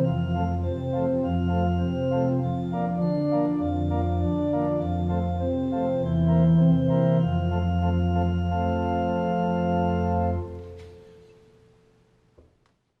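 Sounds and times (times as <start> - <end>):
organ chords: 0.0 - 11.8.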